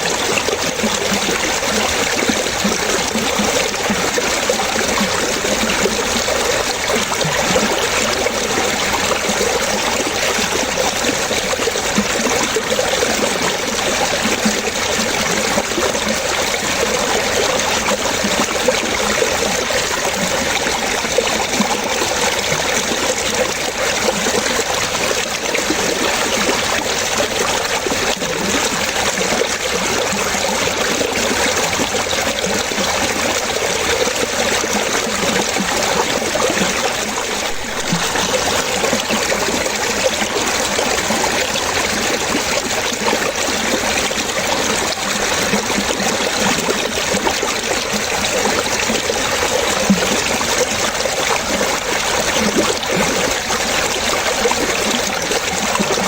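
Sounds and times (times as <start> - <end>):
water trickling and splashing: 0.0 - 56.0.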